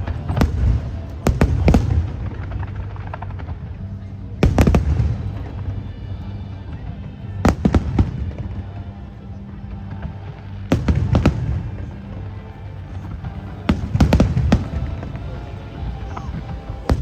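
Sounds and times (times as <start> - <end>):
fireworks booming bursts: 0.0 - 17.0
fireworks crackling: 0.0 - 17.0
music: 0.0 - 17.0.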